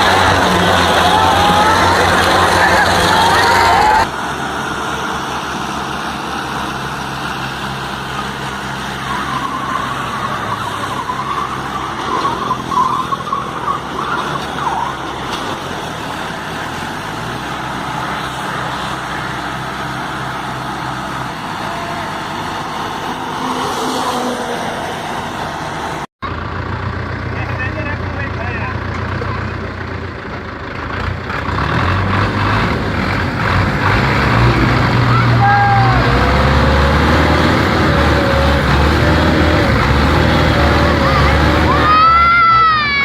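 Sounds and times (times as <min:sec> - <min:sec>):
vehicle engine running: 0:00.0 - 0:23.6, 0:25.0 - 0:43.0.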